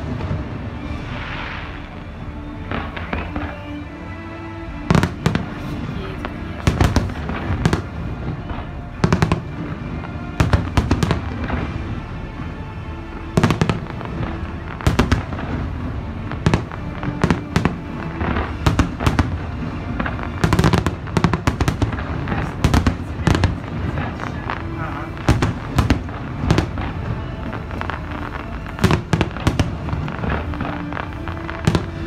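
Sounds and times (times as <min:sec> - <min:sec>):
fireworks bursting in sharp bangs: 0:00.0 - 0:03.8, 0:04.9 - 0:12.5, 0:13.3 - 0:32.0
music playing: 0:00.0 - 0:32.0.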